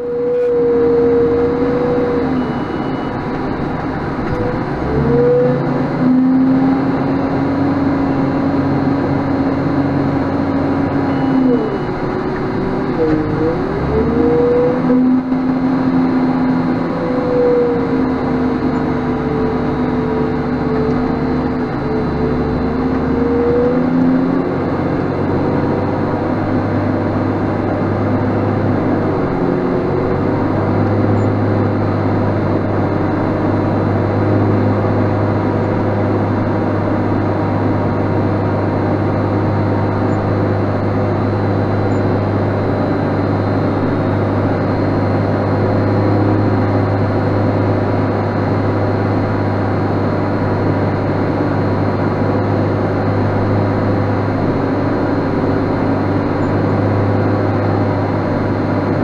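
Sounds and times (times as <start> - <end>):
diesel engine under heavy load: 0.0 - 59.0.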